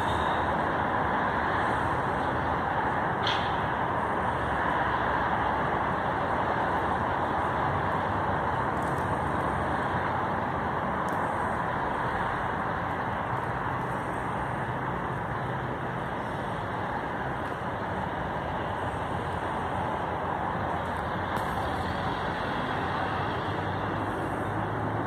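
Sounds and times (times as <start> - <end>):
train cars rolling on rails: 0.0 - 25.0.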